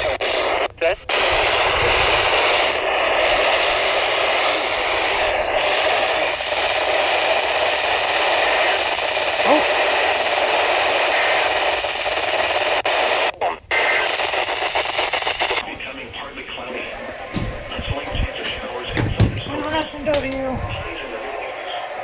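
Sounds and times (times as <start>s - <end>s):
faint radio broadcast: 0.0s - 22.0s
radio static hiss: 0.0s - 22.0s.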